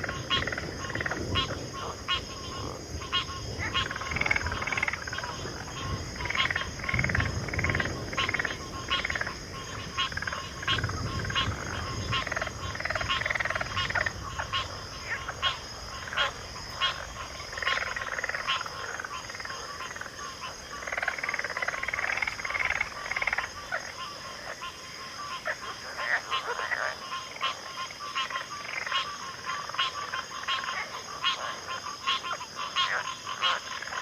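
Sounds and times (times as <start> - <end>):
frogs clicking and warbling: 0.0 - 34.0.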